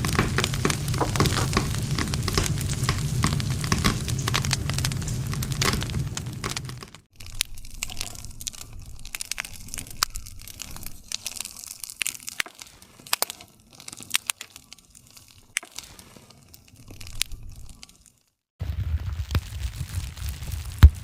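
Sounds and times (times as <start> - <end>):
low rumble of fire: 0.0 - 18.0, 18.6 - 21.0
campfire crackling and popping: 0.0 - 21.0.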